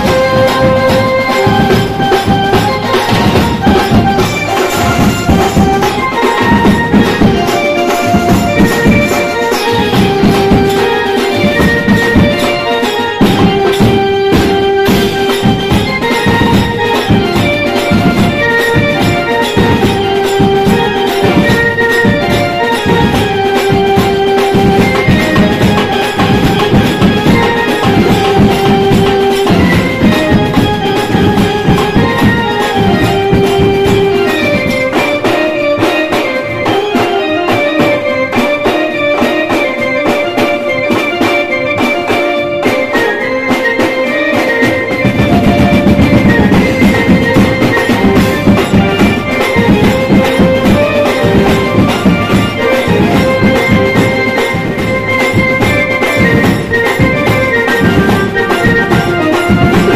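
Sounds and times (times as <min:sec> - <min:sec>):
fast dense drumming: 0:00.0 - 0:40.4, 0:43.0 - 0:59.9
procession band music: 0:00.0 - 0:59.9.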